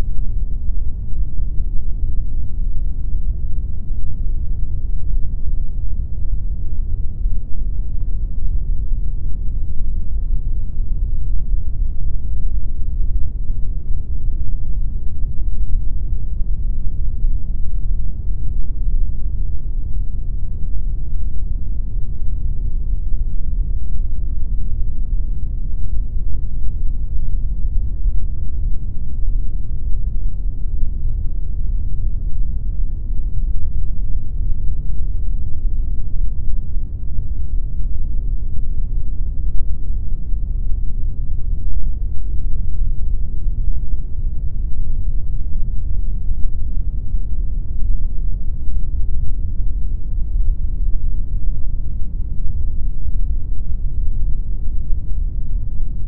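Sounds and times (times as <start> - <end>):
deep pink noise: 0.0 - 56.0.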